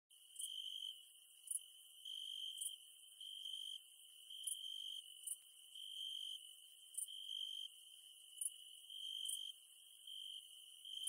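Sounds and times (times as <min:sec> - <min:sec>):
very high insect chirps: 0:00.3 - 0:11.0.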